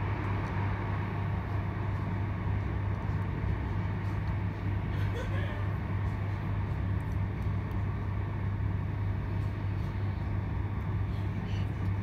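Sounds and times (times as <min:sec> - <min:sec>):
train carriage hum and rumble: 0:00.0 - 0:12.0.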